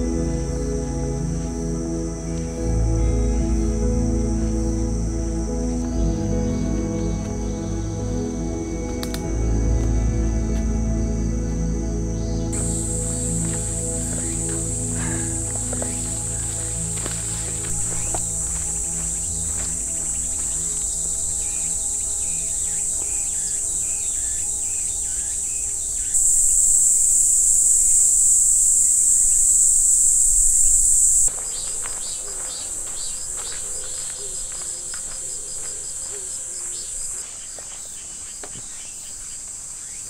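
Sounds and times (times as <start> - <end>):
insects chorus: 0.0 - 40.0.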